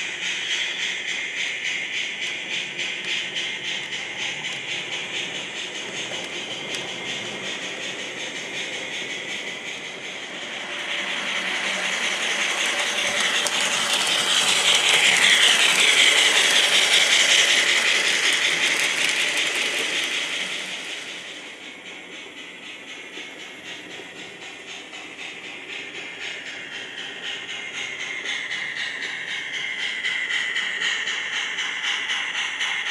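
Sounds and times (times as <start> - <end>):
model train wheels rattling: 0.0 - 32.9.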